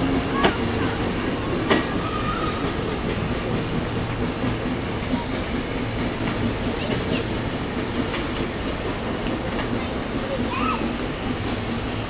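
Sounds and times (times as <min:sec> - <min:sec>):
train rumbling over rails: 0:00.0 - 0:12.0
wheels clicking over track: 0:00.0 - 0:12.0.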